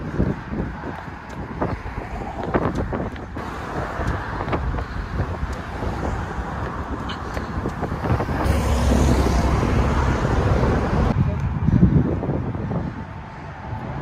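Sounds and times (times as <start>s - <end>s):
road traffic rushing past: 0.0s - 14.0s
wind noise on microphone: 0.0s - 14.0s.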